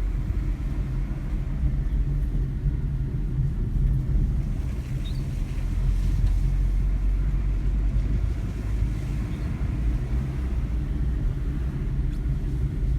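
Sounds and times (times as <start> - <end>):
car engine and road rumble: 0.0 - 12.9.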